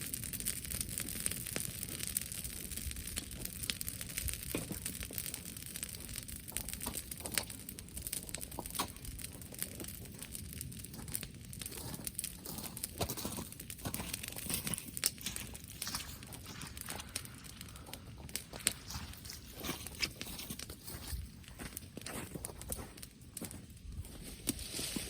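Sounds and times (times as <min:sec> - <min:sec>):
bonfire crackling: 0:00.0 - 0:25.0.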